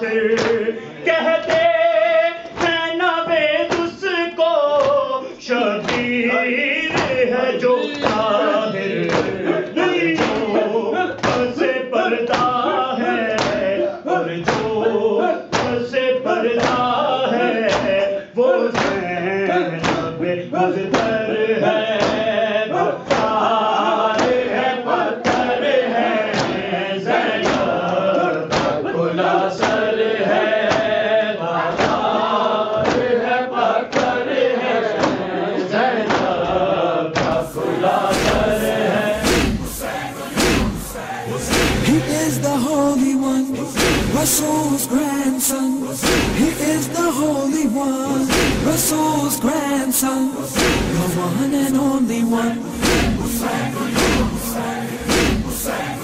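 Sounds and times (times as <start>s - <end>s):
men chanting with group: 4.6s - 56.0s.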